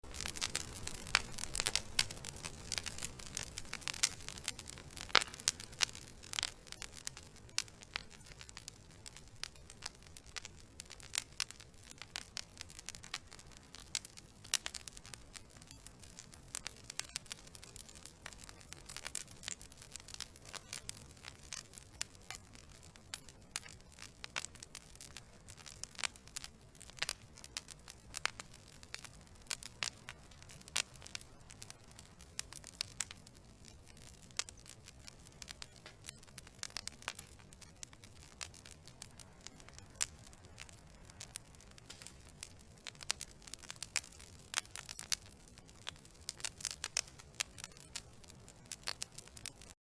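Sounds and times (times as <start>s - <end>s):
logs crackling and popping: 0.0s - 49.8s
low rumble of flames: 0.0s - 49.8s.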